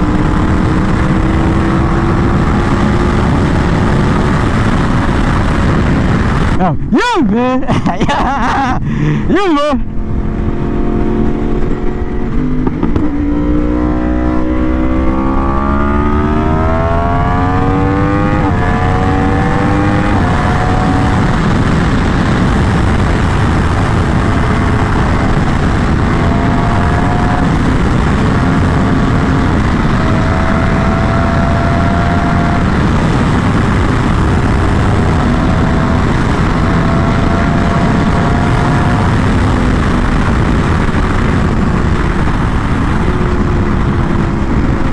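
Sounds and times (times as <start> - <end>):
motorcycle engine accelerating: 0.0 - 6.8, 9.8 - 44.9
wind rush on microphone: 0.0 - 44.9.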